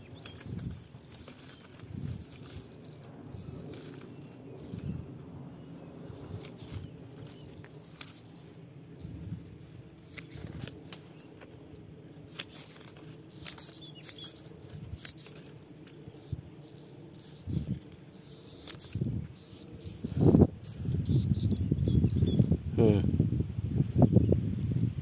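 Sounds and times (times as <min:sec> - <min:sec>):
pruning shears clicking: 0:00.0 - 0:05.1, 0:05.8 - 0:22.6.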